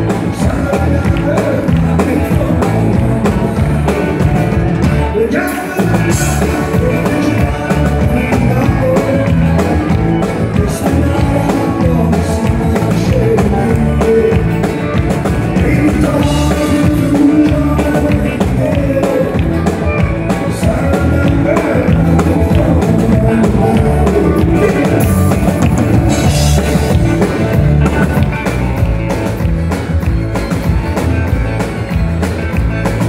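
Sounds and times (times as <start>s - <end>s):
man singing: 0.0s - 28.9s
drums: 0.0s - 33.0s.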